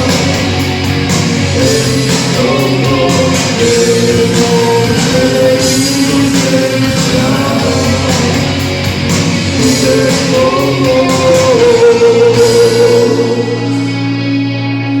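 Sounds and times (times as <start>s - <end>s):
percussion hits: 0.0s - 13.8s
electric guitar: 0.0s - 15.0s
person singing: 0.0s - 15.0s.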